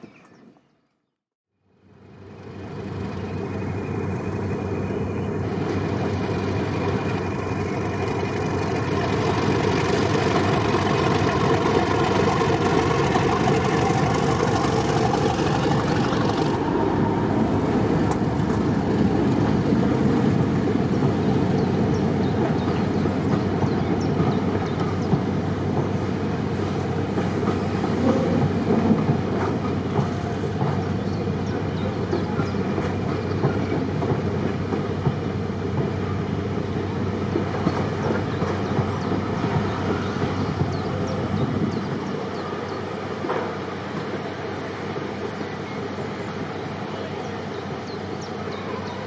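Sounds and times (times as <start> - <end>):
diesel locomotive running: 1.6 - 49.0.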